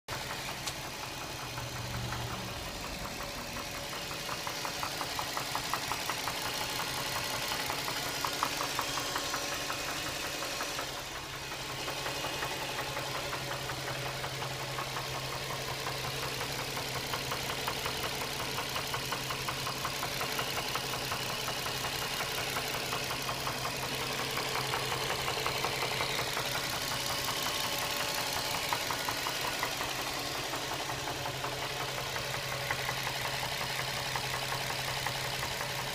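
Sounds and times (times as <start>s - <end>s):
car engine idling: 0.1s - 35.9s
rapid engine ticking: 0.1s - 35.9s.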